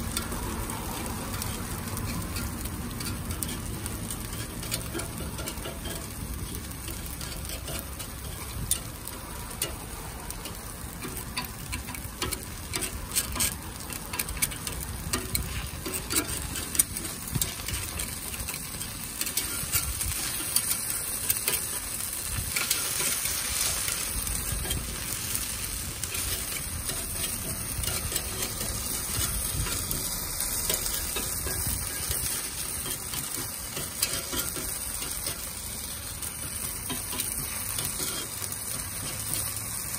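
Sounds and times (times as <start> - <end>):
batter sizzling on grill plate: 0.0 - 39.9
metal pick clicking and scraping: 0.0 - 39.9.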